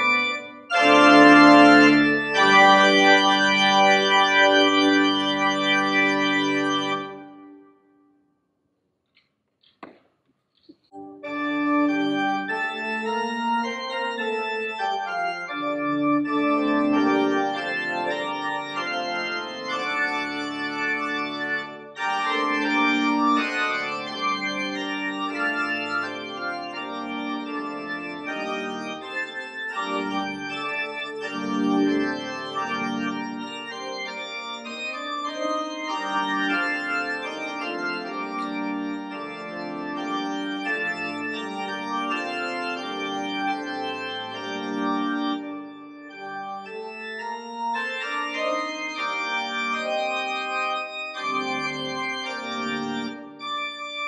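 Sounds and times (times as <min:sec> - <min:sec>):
organ playing slow chords: 0:00.0 - 0:07.7, 0:11.0 - 0:54.0.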